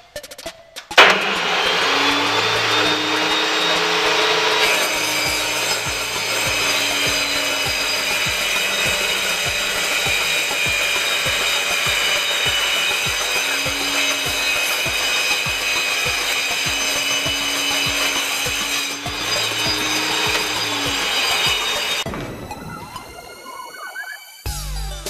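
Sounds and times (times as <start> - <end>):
table saw cutting wood: 1.0 - 22.1.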